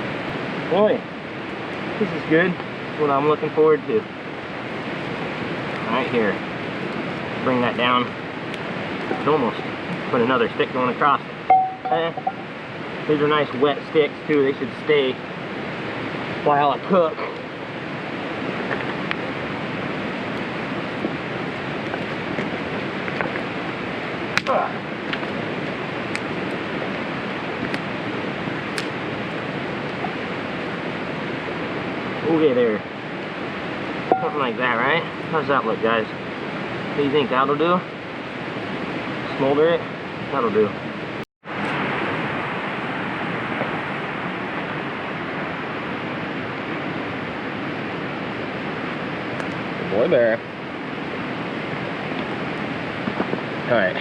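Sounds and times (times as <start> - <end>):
rain: 0.0 - 54.0
wind: 0.0 - 54.0.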